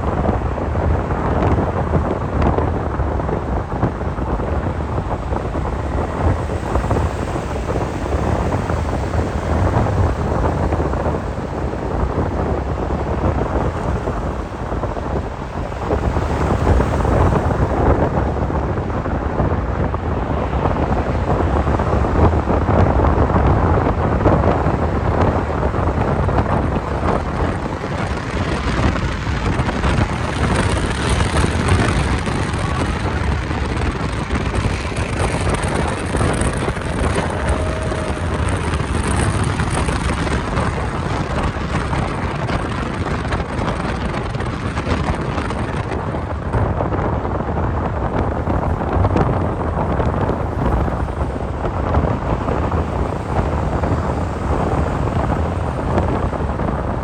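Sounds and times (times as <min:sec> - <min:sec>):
vehicle road and engine rumble: 0:00.0 - 0:57.0
wind buffeting microphone: 0:00.0 - 0:57.0.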